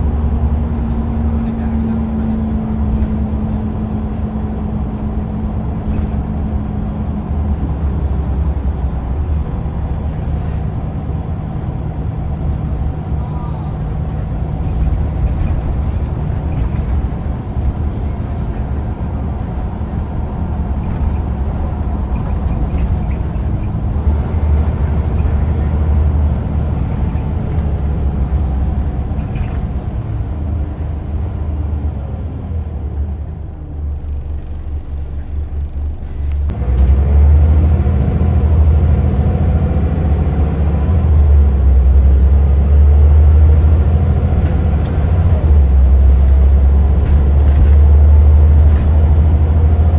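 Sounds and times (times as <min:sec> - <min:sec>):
bus diesel engine droning: 0:00.0 - 0:49.9.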